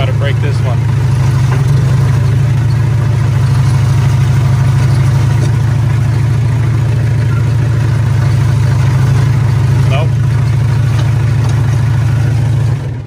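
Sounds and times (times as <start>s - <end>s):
bulldozer diesel engine droning: 0.0s - 13.0s.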